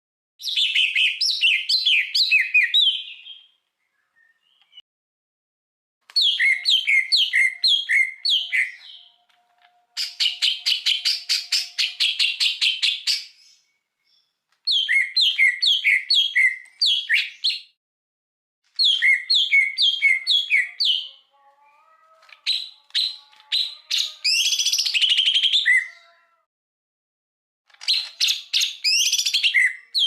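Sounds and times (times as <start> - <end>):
songbird singing: 0.4 - 4.8, 6.2 - 17.7, 18.8 - 26.2, 27.8 - 30.0.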